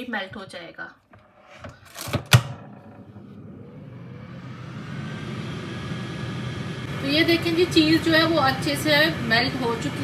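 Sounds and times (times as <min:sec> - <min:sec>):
air fryer fan whirring: 0:01.7 - 0:10.0.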